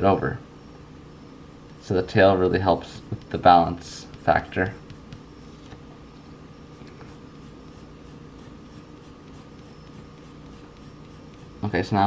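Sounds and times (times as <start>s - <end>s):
pencil strokes scratching on paper: 0.6s - 5.8s, 6.7s - 11.7s.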